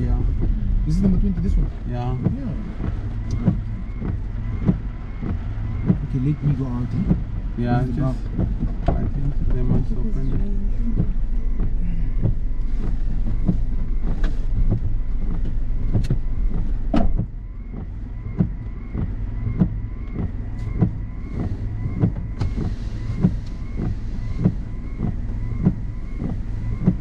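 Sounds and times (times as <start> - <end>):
car engine idling: 0.0 - 27.0
regular ticking: 0.0 - 27.0.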